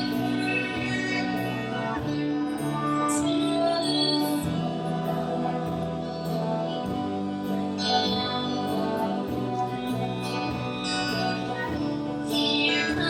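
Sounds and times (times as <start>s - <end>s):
live band playing: 0.0s - 13.0s
voices singing long held notes: 0.0s - 13.0s.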